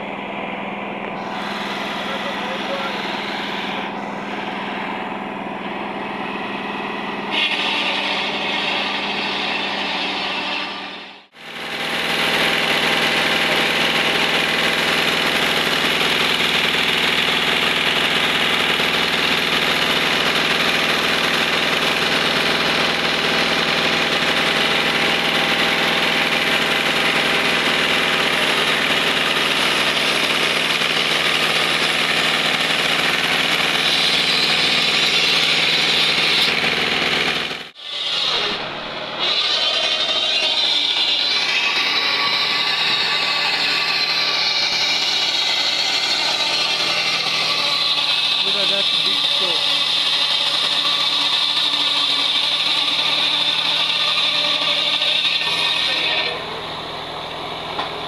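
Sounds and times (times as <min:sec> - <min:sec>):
tractor engine running: 0:00.0 - 0:09.2, 0:11.3 - 0:52.4, 0:56.2 - 0:58.0
spinning belt drive: 0:11.3 - 0:58.0.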